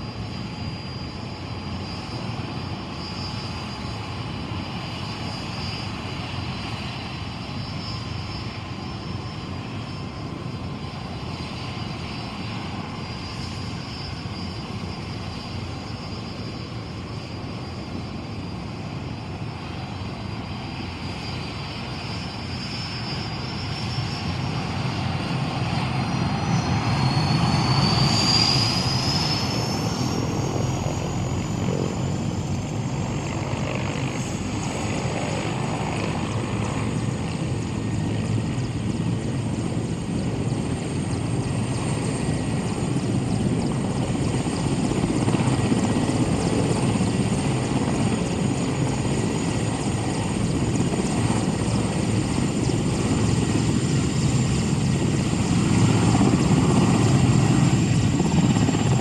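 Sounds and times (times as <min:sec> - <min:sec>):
helicopter engine and rotor: 0:00.0 - 0:59.0
high turbine whine: 0:00.0 - 0:59.0.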